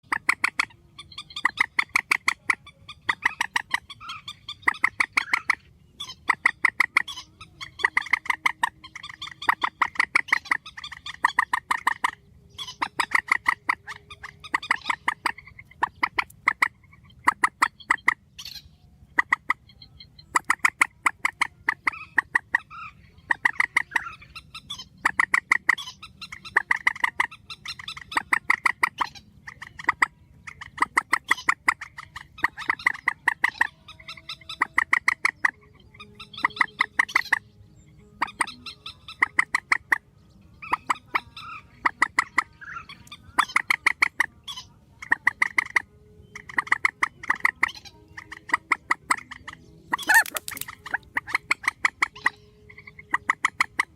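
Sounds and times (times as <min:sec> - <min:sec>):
swamphen cackling calls: 0:00.0 - 0:37.5, 0:38.2 - 0:53.9.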